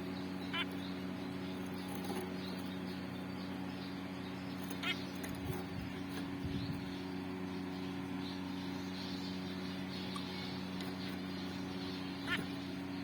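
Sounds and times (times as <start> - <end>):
bird chirp: 0.0 - 13.0
steady low hum: 0.0 - 13.0.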